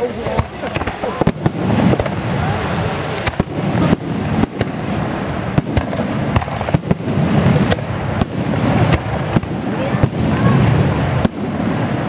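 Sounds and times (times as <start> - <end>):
firework shells bursting: 0.2 - 12.0.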